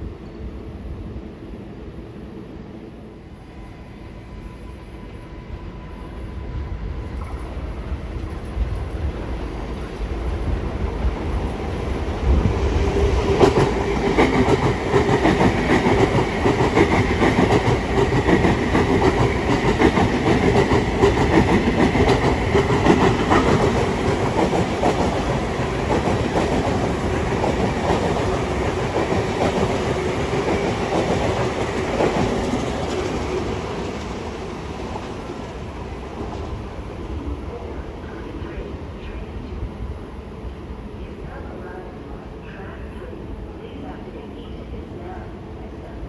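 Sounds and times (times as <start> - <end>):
steady train hum: 0.0 - 46.0.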